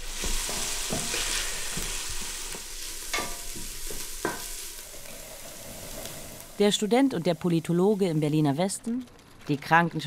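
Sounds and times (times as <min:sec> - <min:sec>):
hot pot hissing: 0:00.0 - 0:08.6.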